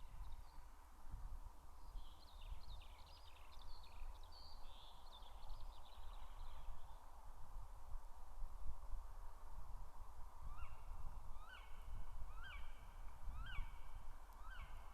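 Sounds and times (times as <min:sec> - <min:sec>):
wind noise on microphone: 0:00.0 - 0:04.7, 0:05.3 - 0:14.9.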